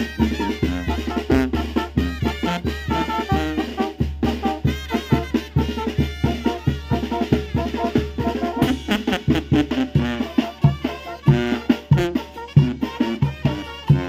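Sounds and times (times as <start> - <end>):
alto horns melody: 0.0 - 14.0.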